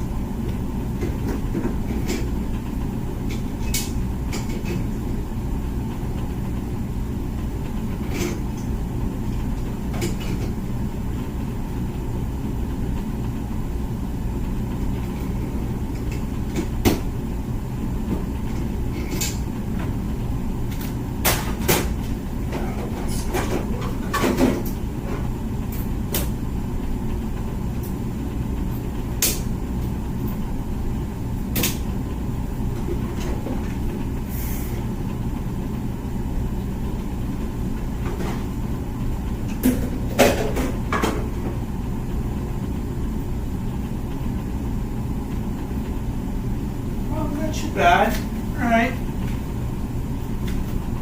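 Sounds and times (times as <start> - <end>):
dishwasher humming: 0.0 - 51.0.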